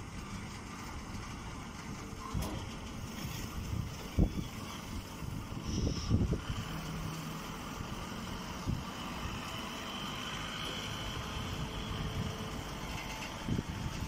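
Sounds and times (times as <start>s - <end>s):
machinery droning: 0.0s - 14.0s.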